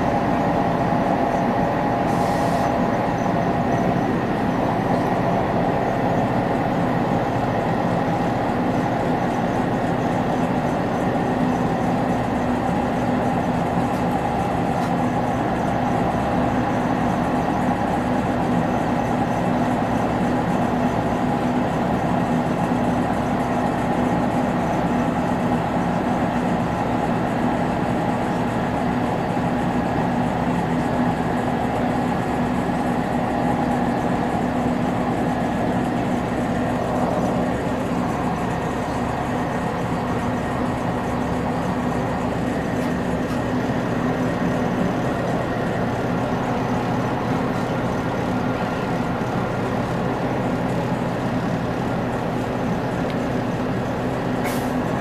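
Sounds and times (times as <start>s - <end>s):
railbus engine and wheels drone: 0.0s - 55.0s.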